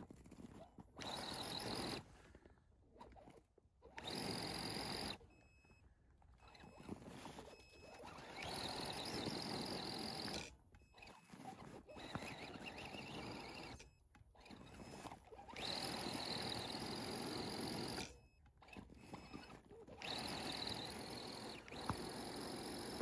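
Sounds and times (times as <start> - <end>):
rc car motor whining: 0.5 - 2.3, 3.0 - 5.3, 6.4 - 23.0.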